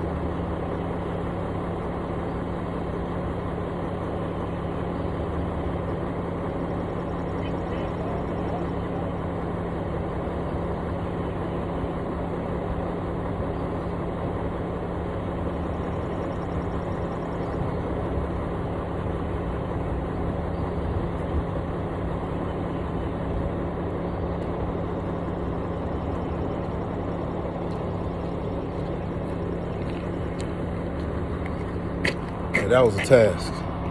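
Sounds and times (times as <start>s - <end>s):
construction equipment engine running: 0.0s - 33.9s.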